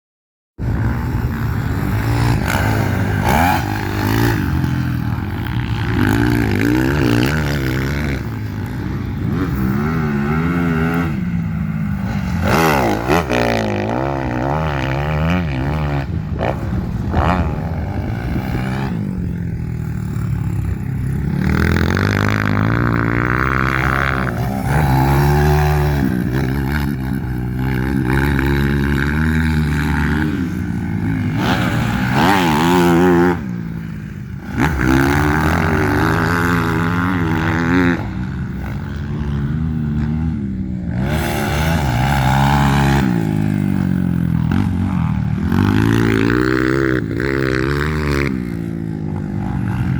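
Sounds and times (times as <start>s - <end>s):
dirt bike engine revving: 0.6s - 49.9s.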